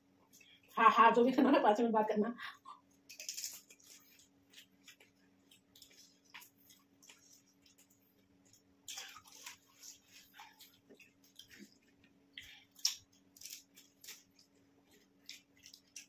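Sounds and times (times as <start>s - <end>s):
faint low hum: 0.0s - 16.0s
crunching and chewing food: 2.7s - 16.0s.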